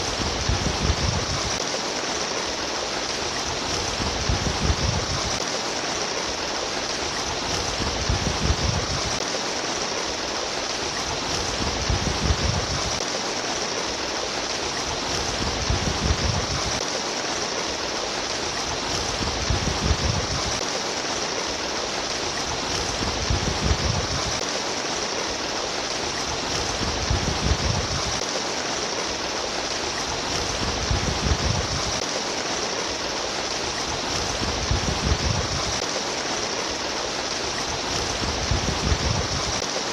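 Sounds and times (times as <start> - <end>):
babbling stream: 0.0 - 39.9.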